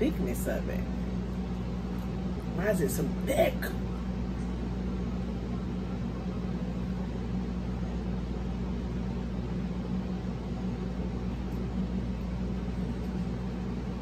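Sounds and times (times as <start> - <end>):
fan hum with hiss: 0.0 - 14.0.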